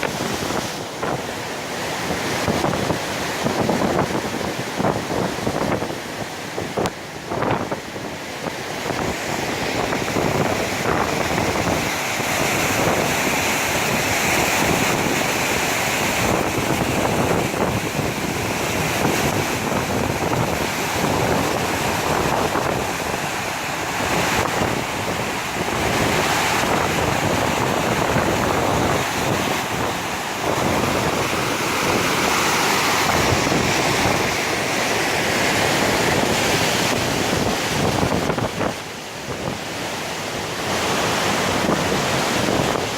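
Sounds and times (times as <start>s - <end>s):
water rushing over a dam: 0.0s - 42.9s.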